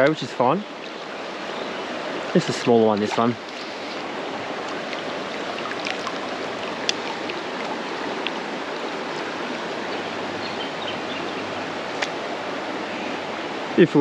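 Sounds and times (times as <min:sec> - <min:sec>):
creek water splashing: 0:00.0 - 0:13.7.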